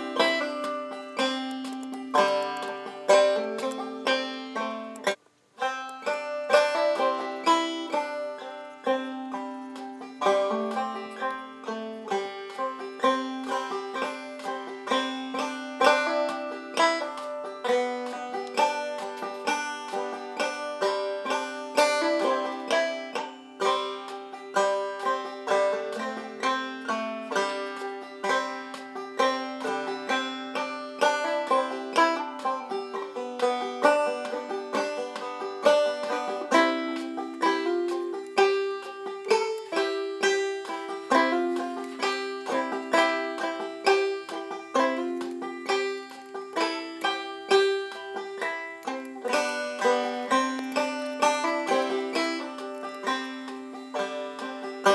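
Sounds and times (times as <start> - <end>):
fast plucked string music: 0.0 - 54.9.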